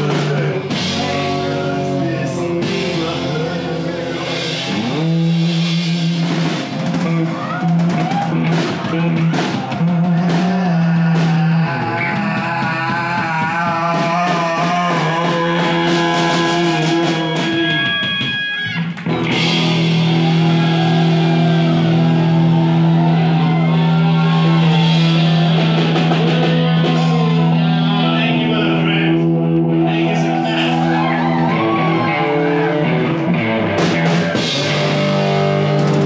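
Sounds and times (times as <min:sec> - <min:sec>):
person singing: 0:00.0 - 0:18.4, 0:19.1 - 0:36.0
folk-rock band playing live: 0:00.0 - 0:36.0.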